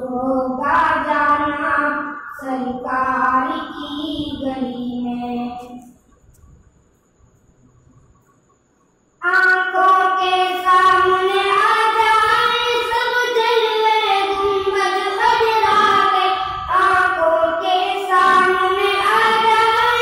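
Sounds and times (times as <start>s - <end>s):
boys singing devotional song: 0.0s - 6.0s, 9.2s - 20.0s.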